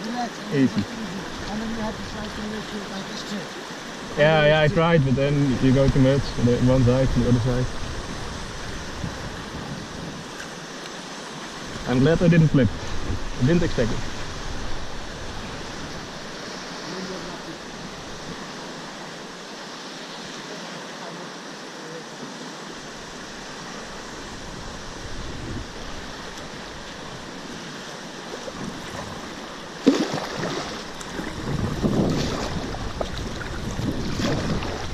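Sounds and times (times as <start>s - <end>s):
river water rushing: 0.0s - 34.9s
water splashing: 0.0s - 34.9s
wind buffeting microphone: 0.1s - 10.8s, 11.4s - 19.2s, 22.8s - 34.9s.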